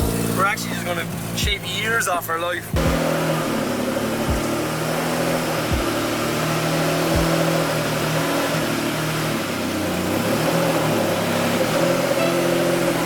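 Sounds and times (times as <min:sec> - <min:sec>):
car engine running inside cabin: 0:00.0 - 0:13.0.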